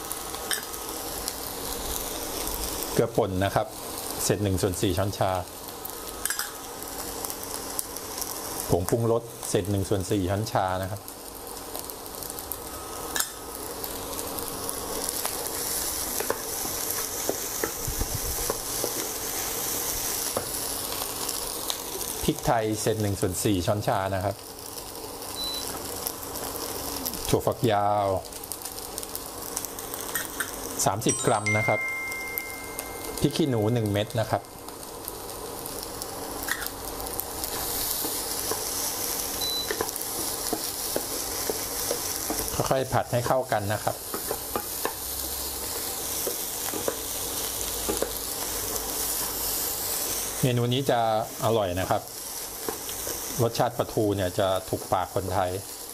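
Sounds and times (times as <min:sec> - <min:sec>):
rice sizzling in a pan: 0:00.0 - 0:55.9.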